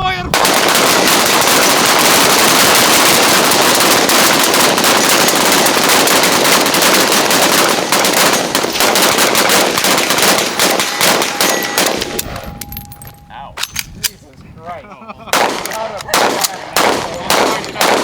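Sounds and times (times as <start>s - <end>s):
rifle volley fire: 0.3s - 12.4s, 15.3s - 18.0s.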